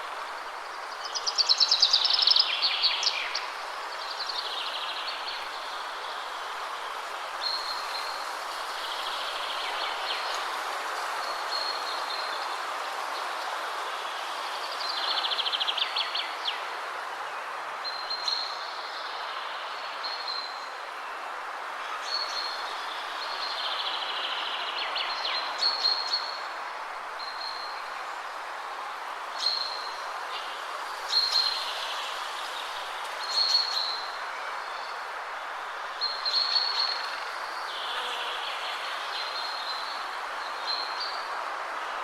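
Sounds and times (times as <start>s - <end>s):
wind rushing through trees: 0.0s - 42.0s.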